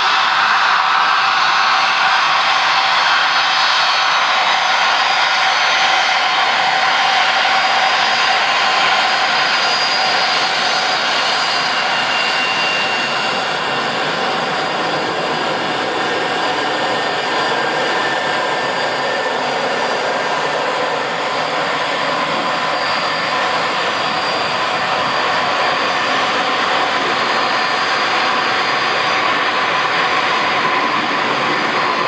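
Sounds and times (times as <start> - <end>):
jet engines whining: 0.0 - 32.0.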